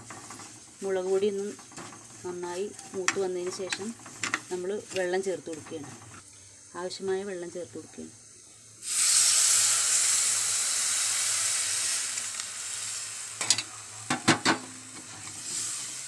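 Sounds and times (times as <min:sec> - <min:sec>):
water sizzling in hot oil: 0:00.0 - 0:16.0.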